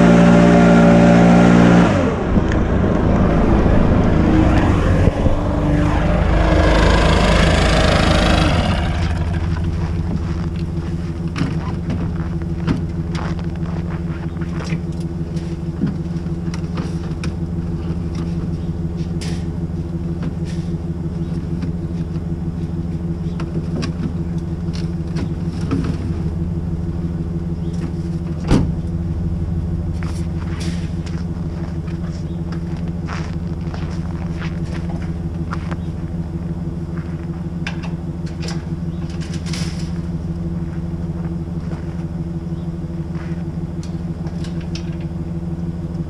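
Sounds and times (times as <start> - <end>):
pickup truck idling: 6.1 - 46.0.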